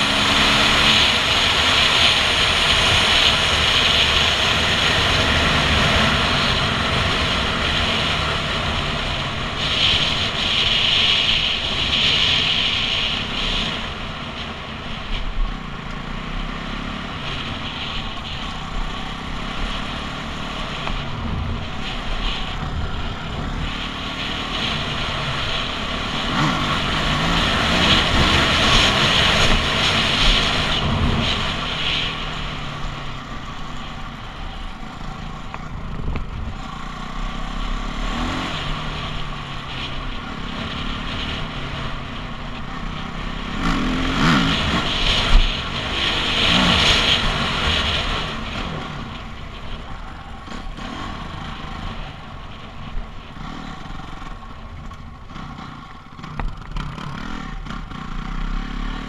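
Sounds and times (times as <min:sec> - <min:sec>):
dirt bike engine revving: 0:00.0 - 0:14.3, 0:15.5 - 0:41.9, 0:42.6 - 0:49.2, 0:50.2 - 0:59.0.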